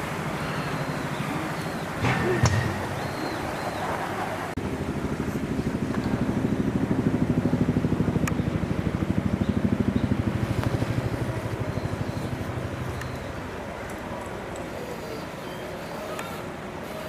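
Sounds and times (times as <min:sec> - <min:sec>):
engine running with low pulsing: 0:00.0 - 0:17.0.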